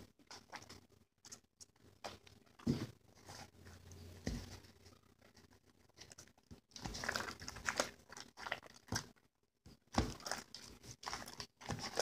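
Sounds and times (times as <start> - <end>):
slime squelching by hand: 0.0 - 12.0.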